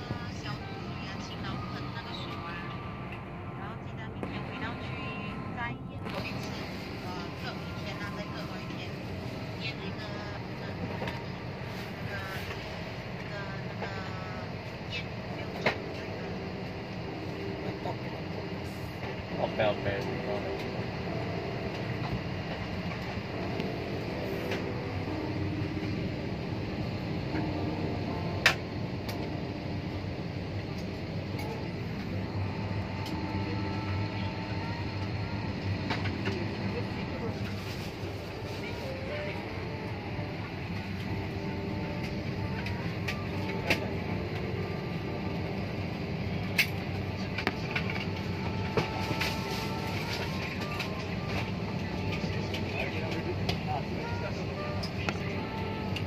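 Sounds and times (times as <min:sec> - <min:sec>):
airliner cabin hum and hiss: 0:00.0 - 0:56.0.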